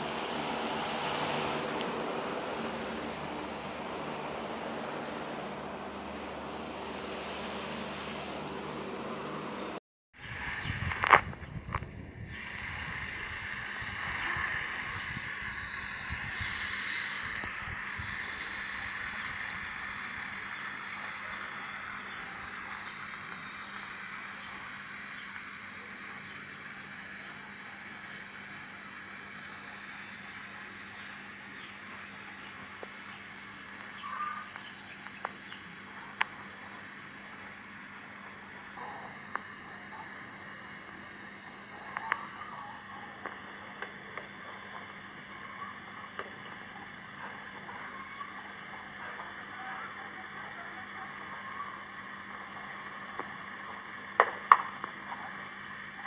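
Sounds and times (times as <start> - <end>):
even hiss: 0.0 - 56.0
insect drone: 0.0 - 56.0.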